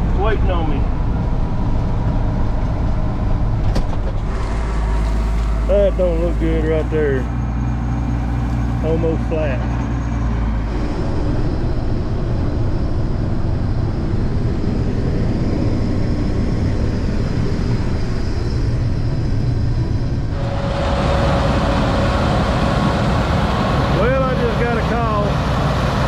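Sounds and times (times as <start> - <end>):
steady whine: 0.0 - 26.0
truck engine rumbling: 0.0 - 26.0.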